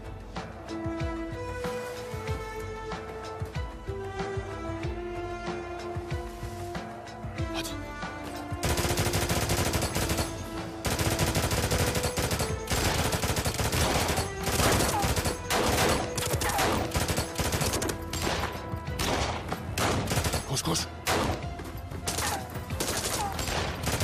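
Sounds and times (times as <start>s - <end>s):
film music: 0.0s - 24.0s.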